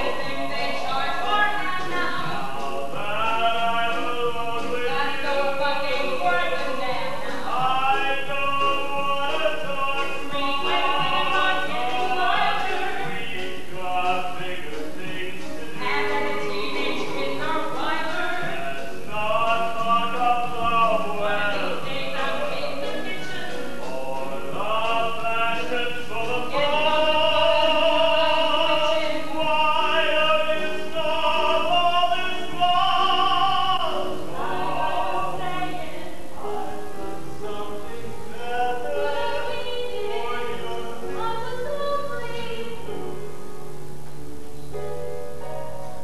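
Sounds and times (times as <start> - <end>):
man and woman singing duet: 0.0 - 43.0
musical accompaniment: 0.0 - 46.0.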